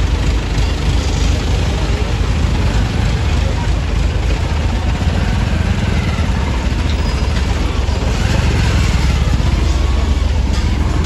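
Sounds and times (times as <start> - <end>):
motorcycle engine running: 0.0 - 11.0
street traffic rumble: 0.0 - 11.0.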